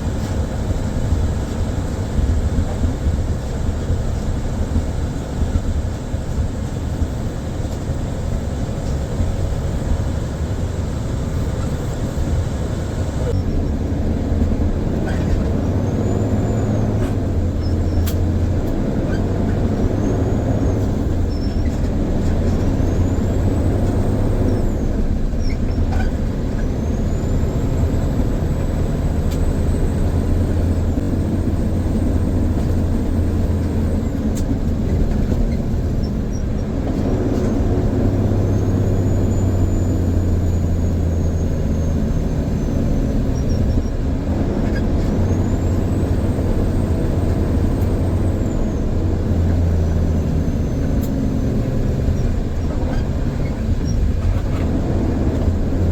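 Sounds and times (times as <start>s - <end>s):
truck engine rumble: 0.0s - 55.9s.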